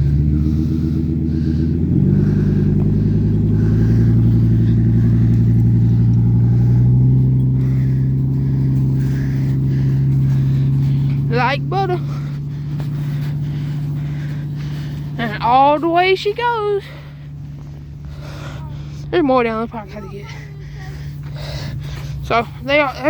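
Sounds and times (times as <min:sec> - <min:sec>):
vehicle engine revving: 0:00.0 - 0:23.0.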